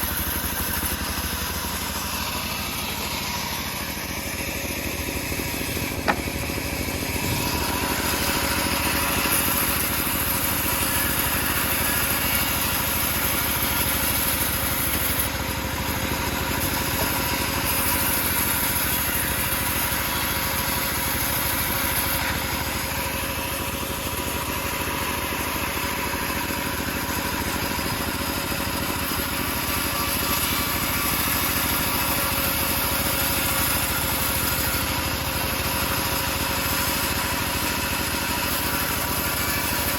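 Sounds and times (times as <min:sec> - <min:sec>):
bandsaw mill humming: 0:00.0 - 0:39.9.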